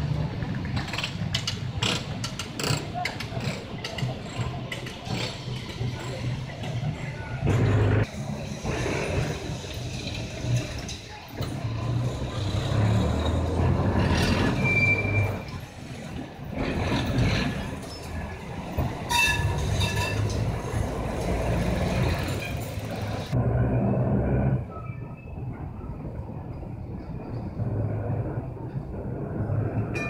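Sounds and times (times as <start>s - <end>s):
tram rumble: 0.0s - 30.0s
tram wheel squeals: 2.2s - 28.3s.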